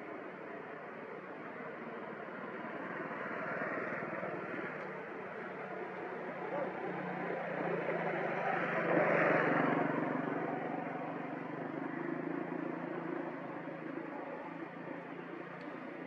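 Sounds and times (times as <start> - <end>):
vehicle engine humming: 0.1 - 16.0.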